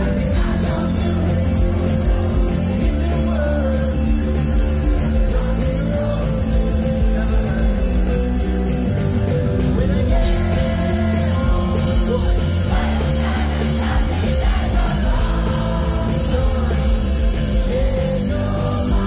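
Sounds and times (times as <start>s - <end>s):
man singing lead vocal: 0.0s - 8.6s, 9.5s - 19.0s
live rock band playing: 0.0s - 19.0s.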